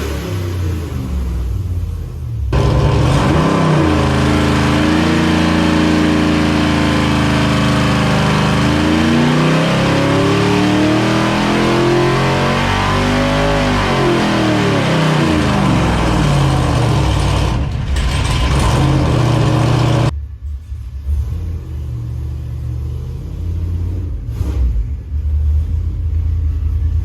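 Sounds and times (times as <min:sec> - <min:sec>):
engine revving under load: 0:00.0 - 0:27.0.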